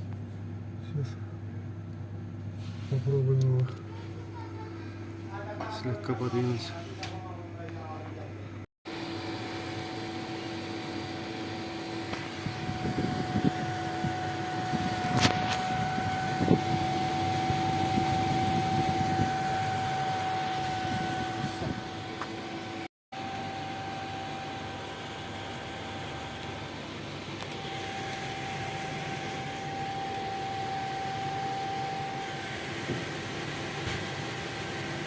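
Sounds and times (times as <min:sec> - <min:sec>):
refrigerator humming: 0:00.0 - 0:35.0.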